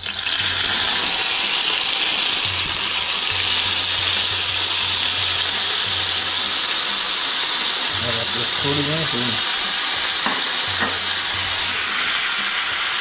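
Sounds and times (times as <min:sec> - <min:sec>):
larvae sizzling in hot oil: 0:00.0 - 0:13.0.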